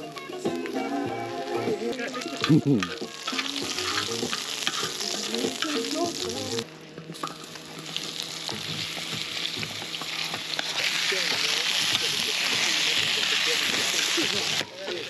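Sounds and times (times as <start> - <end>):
food frying in oil: 0.0 - 15.0.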